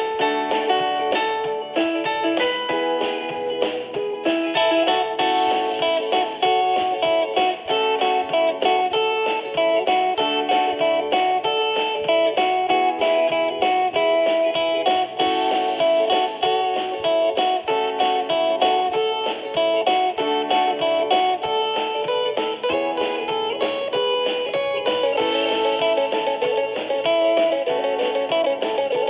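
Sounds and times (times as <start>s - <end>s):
plucked guitar picking notes: 0.0s - 29.0s.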